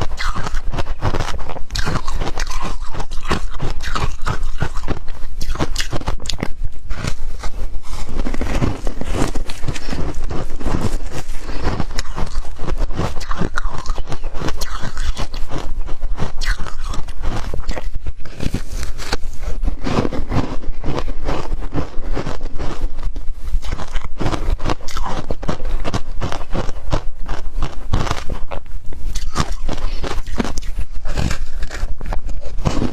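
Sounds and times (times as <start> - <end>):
ice crunching being chewed: 0.0 - 32.9.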